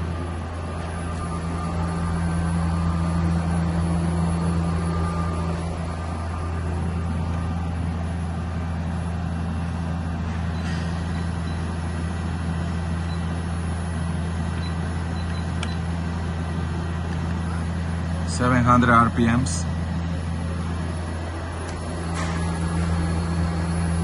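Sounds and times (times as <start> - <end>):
lathe spindle humming and whirring: 0.0 - 24.0.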